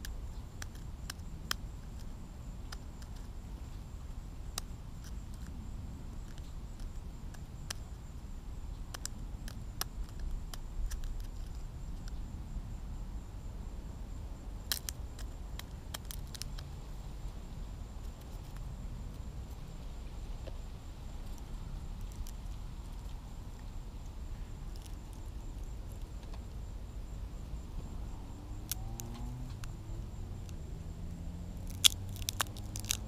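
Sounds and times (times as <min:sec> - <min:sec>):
faint high whine: 0:00.0 - 0:32.7.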